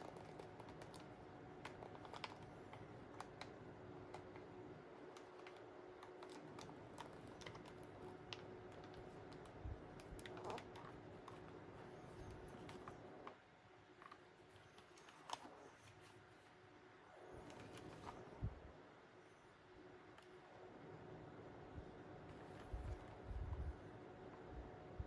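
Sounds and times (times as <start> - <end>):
steady low hum with tone: 0.0 - 25.0.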